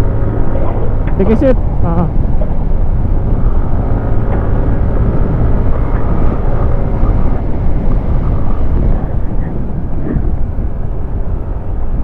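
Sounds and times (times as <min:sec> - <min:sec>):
scooter engine running: 0:00.0 - 0:12.0
wind rush on microphone: 0:00.0 - 0:12.0.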